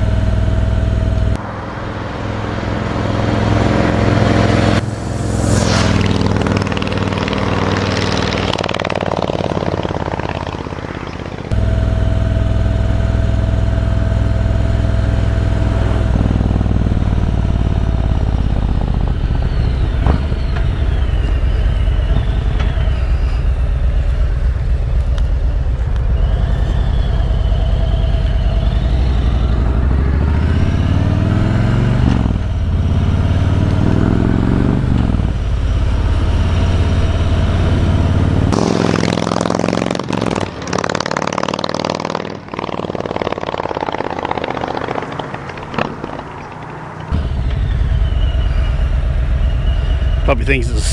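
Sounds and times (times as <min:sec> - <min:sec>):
motorcycle exhaust deep note: 0:00.0 - 0:01.4, 0:04.0 - 0:50.9.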